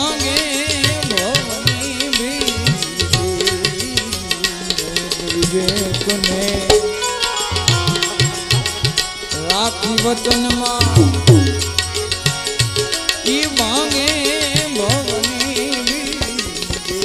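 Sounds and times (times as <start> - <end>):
hand drum rhythm: 0.0 - 17.0
harmonium chords and melody: 0.0 - 17.0.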